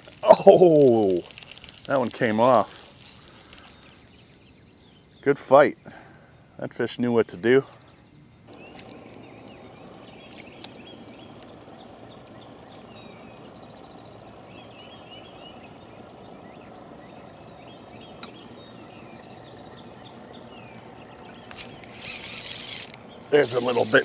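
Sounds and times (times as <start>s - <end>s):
birds chirping: 0.0s - 24.0s
outdoor background hiss: 0.0s - 24.0s.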